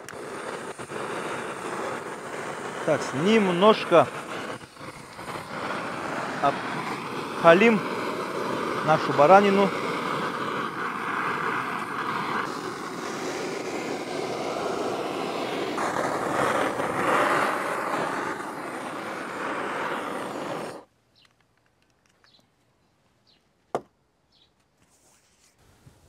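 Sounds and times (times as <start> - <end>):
blowtorch flame: 0.0 - 20.9.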